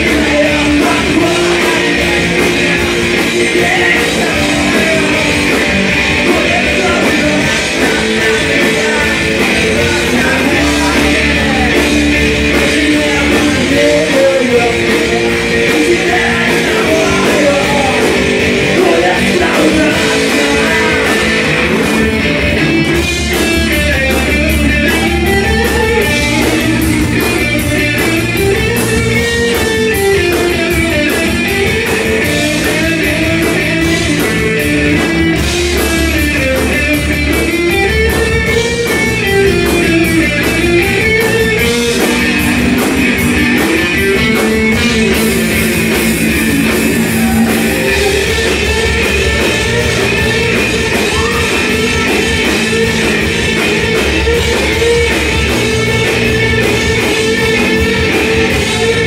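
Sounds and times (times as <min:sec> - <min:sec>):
electric guitar line: 0:00.0 - 0:59.0
live rock band playing: 0:00.0 - 0:59.0.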